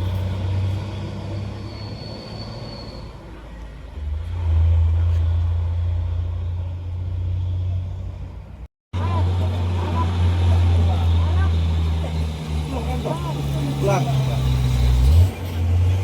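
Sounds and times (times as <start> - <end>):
diesel truck engine droning: 3.2 - 16.0.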